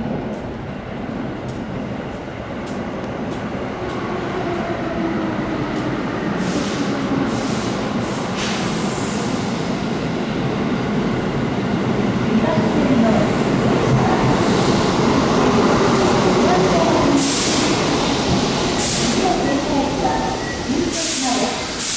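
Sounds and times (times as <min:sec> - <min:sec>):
electric train rumbling: 0:00.0 - 0:21.9.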